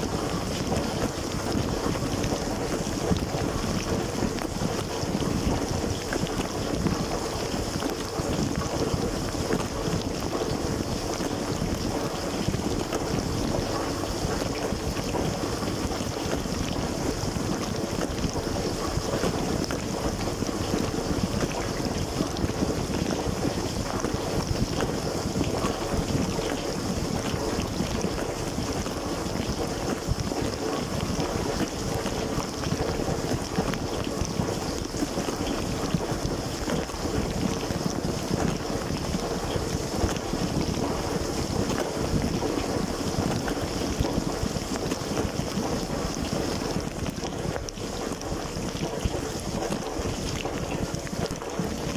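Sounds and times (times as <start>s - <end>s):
circulation pump running: 0.0s - 51.9s
water jets spraying dishes: 0.0s - 51.9s.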